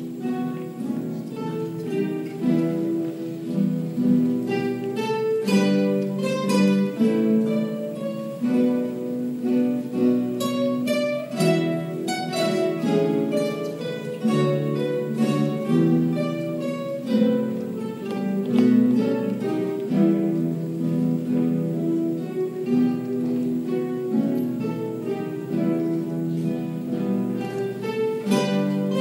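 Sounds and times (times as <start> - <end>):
classical guitar ensemble playing: 0.0 - 29.0.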